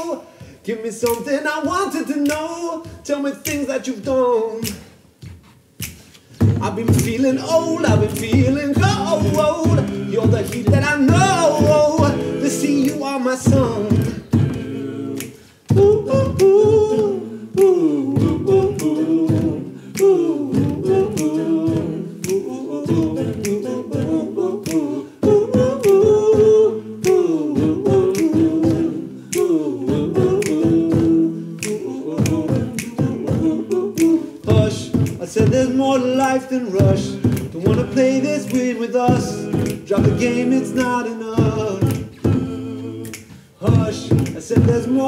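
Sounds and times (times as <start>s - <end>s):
male group singing harmonies: 0.0s - 5.2s, 5.8s - 45.0s
beatboxed percussion clicks: 0.0s - 45.0s.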